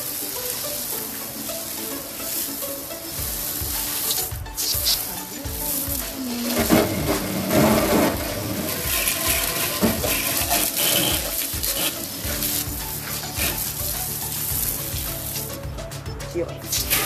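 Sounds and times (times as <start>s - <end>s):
water jet spraying on tiled wall: 0.0s - 16.0s, 16.6s - 17.0s.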